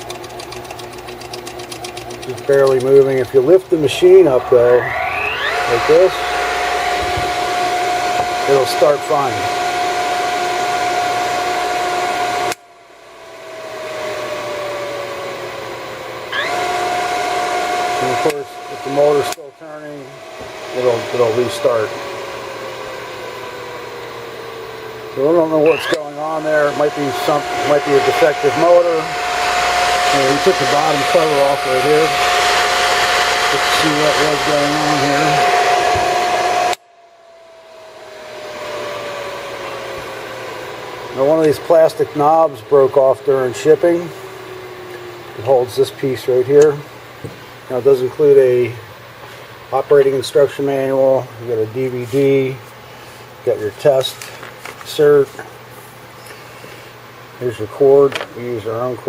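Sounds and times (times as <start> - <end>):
motor whining: 0.0 - 57.1
motor coasting down: 0.0 - 59.0.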